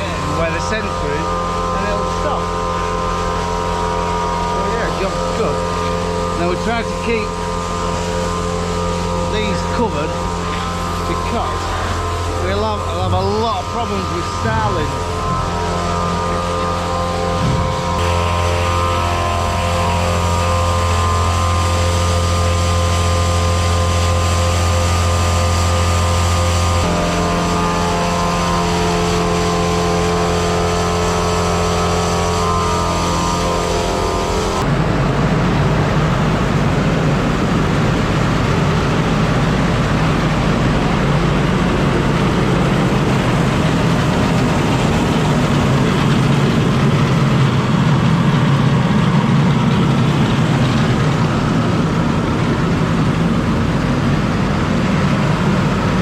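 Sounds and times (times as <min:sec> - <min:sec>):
rough engine and machinery noise: 0:00.0 - 0:56.0
tractor engine running: 0:00.0 - 0:56.0.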